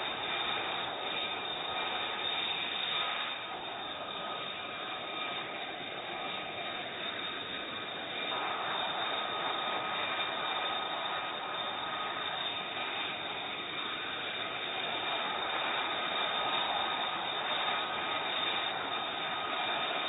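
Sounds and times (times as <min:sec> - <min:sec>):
jet engine running: 0:00.0 - 0:20.0.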